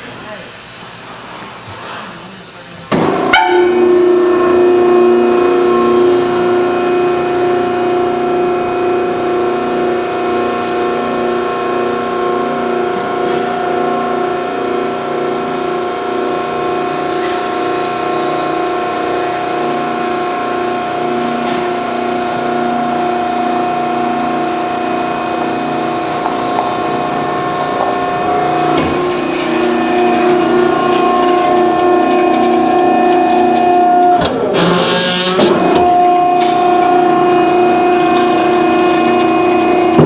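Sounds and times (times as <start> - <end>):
hydraulic pump humming: 0.0 - 40.0.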